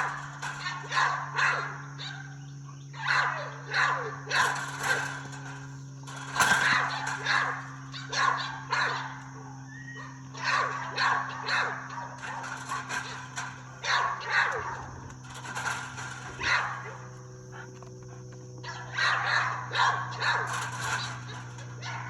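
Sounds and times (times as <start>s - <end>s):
dog barking: 0.0s - 5.4s, 6.4s - 15.1s, 16.3s - 22.0s.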